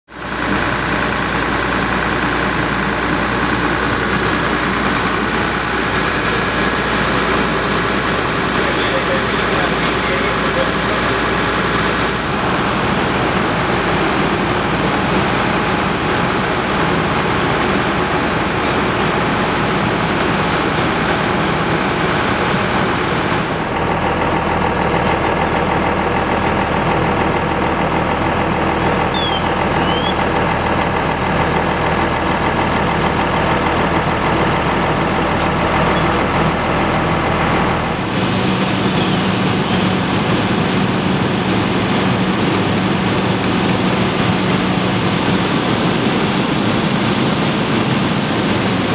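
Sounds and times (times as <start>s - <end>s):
fire truck diesel engines rumbling: 0.1s - 48.9s.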